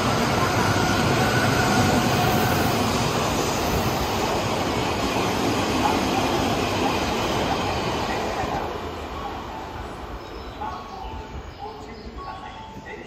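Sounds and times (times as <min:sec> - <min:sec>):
electric train passing: 0:00.0 - 0:13.0
train wheels on rails: 0:00.0 - 0:13.0.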